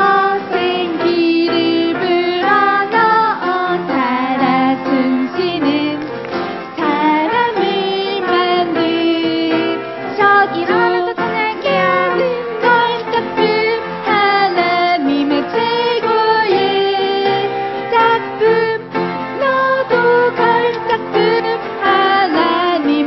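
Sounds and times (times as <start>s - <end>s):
voices singing: 0.0s - 6.1s, 6.8s - 23.0s
instrumental accompaniment: 0.0s - 23.0s.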